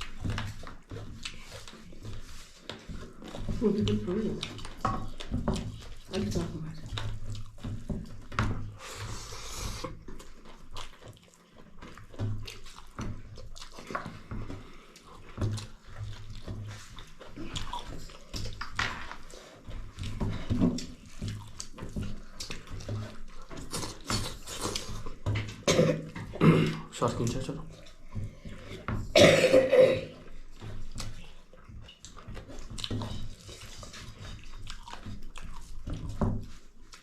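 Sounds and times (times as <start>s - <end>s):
people chewing and slurping: 0.0s - 37.0s.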